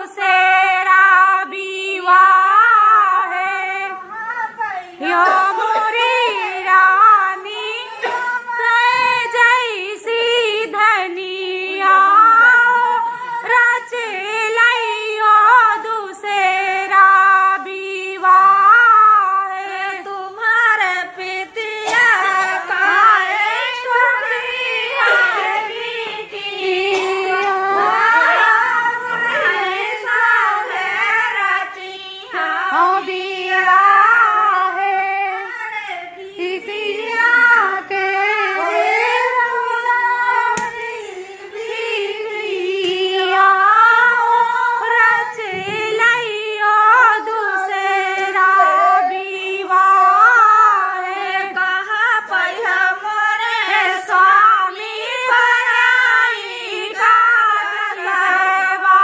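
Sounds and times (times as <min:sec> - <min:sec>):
women singing together: 0:00.0 - 0:59.0.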